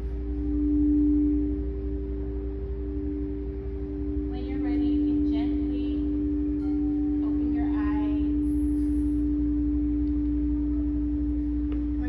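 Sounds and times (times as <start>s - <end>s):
faint higher tone: 0.0s - 12.0s
singing bowls ringing: 0.0s - 12.0s.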